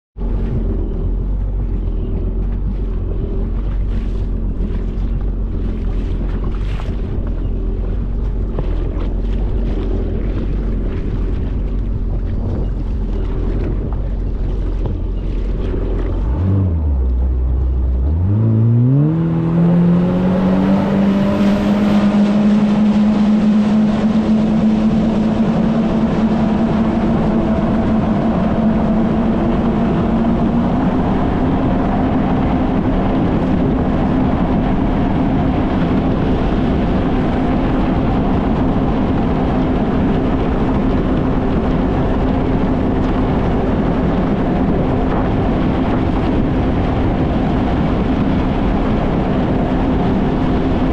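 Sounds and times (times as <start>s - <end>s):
jet ski engine revving: 0.2s - 50.9s
water rush: 0.2s - 50.9s
wind rush: 0.2s - 50.9s.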